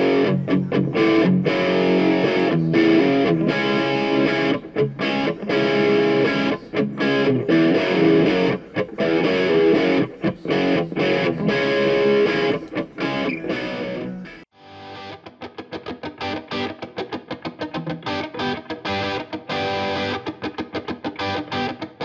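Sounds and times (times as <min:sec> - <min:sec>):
distorted electric guitar music: 0:00.0 - 0:22.0.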